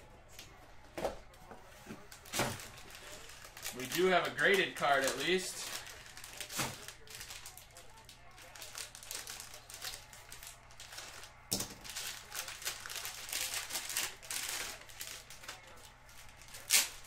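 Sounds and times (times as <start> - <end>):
cards scraping and crinkling: 1.7 - 17.0.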